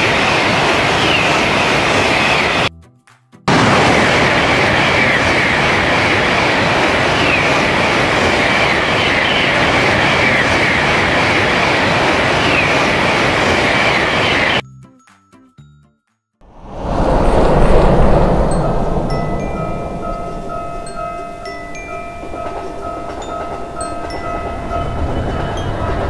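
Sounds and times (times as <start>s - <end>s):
train passing close by: 0.0s - 2.7s, 3.5s - 14.6s, 16.5s - 26.0s.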